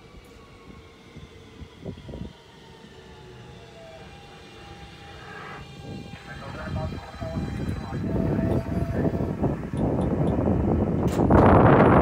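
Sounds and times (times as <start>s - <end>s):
subway motors whining: 0.0s - 12.0s
train rumble: 0.0s - 12.0s.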